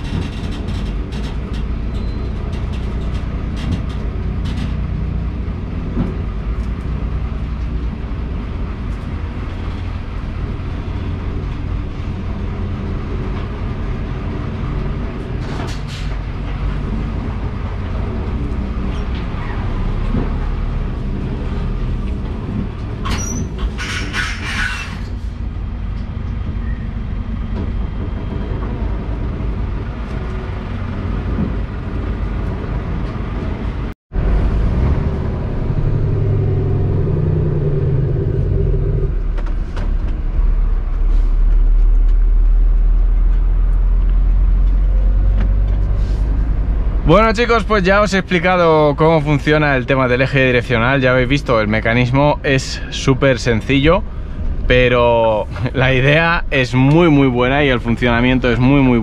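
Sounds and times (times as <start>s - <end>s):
diesel engine drone: 0.0s - 59.0s
tyres rumbling under trailer: 0.0s - 59.0s.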